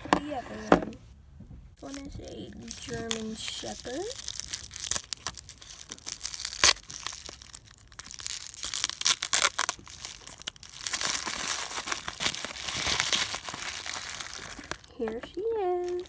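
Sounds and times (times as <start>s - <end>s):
plastic bag crinkling and tearing: 1.8s - 16.0s.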